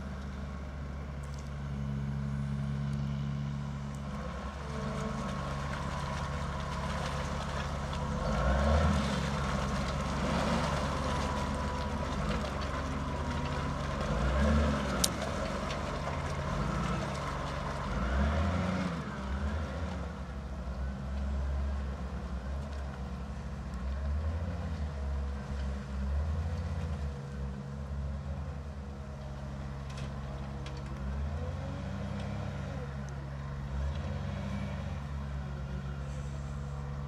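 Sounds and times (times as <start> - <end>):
diesel engine running under load: 0.0 - 37.0.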